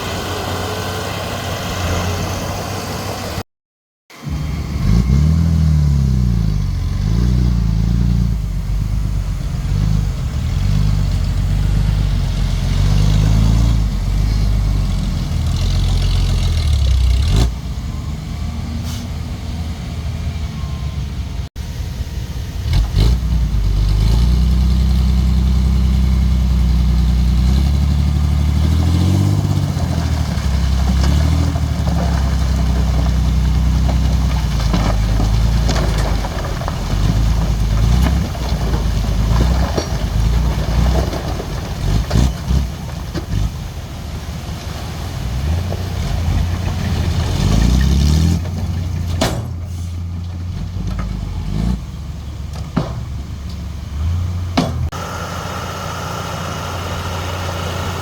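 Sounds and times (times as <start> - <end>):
bulldozer diesel engine revving: 0.0 - 3.4, 4.2 - 21.3, 22.3 - 58.0.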